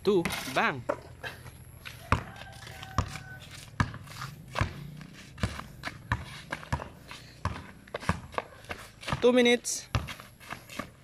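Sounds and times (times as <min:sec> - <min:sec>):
basketball bouncing on concrete: 0:00.0 - 0:01.1, 0:01.8 - 0:11.0
footsteps scuffing: 0:00.1 - 0:11.0.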